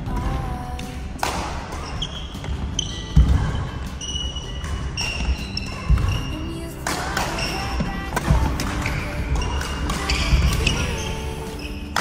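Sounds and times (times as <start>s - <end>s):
shoes squeaking on floor: 1.6s - 12.0s.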